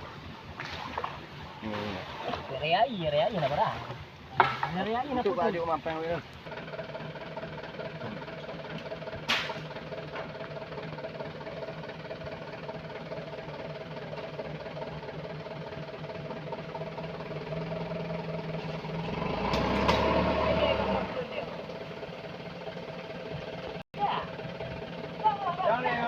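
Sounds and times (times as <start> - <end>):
heavy machine engine running: 4.8 - 26.0.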